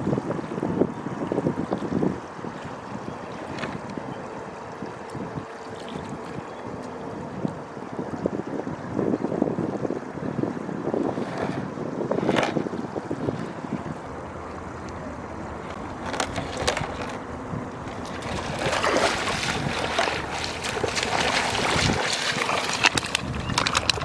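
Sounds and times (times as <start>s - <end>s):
rushing water: 0.0s - 24.0s
wind on microphone: 0.0s - 24.0s.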